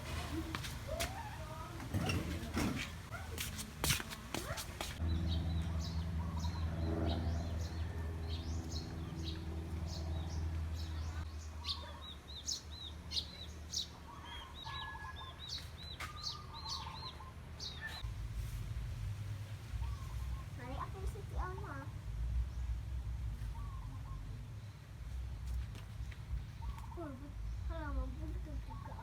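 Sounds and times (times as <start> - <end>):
small birds chirping: 0.1 - 18.1, 19.7 - 29.0.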